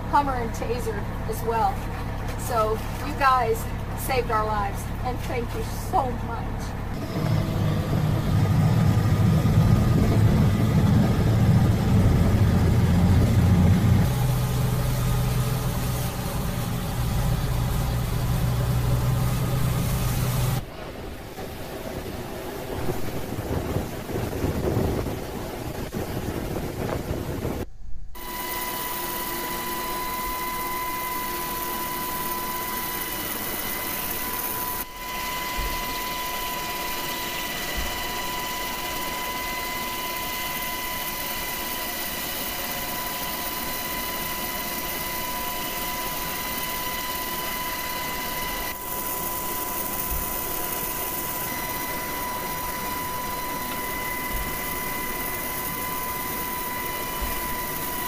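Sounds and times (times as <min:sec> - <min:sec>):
helicopter engine and rotor: 0:00.0 - 0:27.6, 0:28.2 - 0:58.0.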